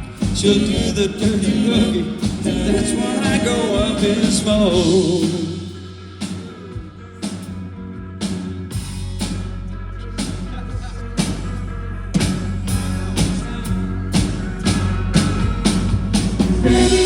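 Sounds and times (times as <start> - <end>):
deep bass line: 0.0 - 17.0
pop rock band playing: 0.0 - 17.0.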